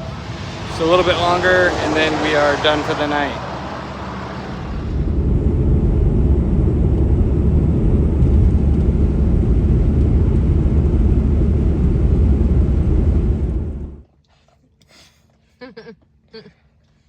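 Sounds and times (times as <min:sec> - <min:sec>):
truck driving rumble: 0:00.0 - 0:14.0.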